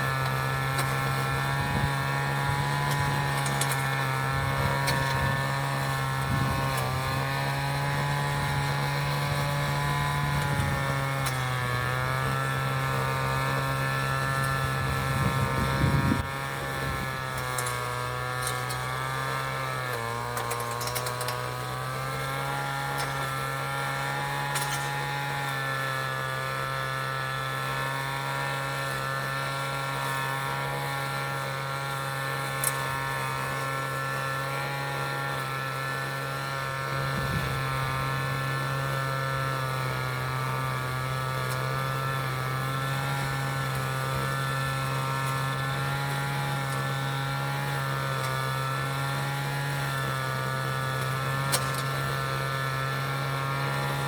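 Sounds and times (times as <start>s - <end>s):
vehicle engine running nearby: 0.0s - 54.0s.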